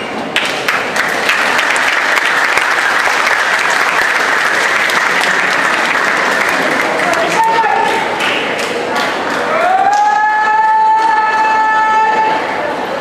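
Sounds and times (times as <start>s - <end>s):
large crowd applauding: 0.3s - 11.6s.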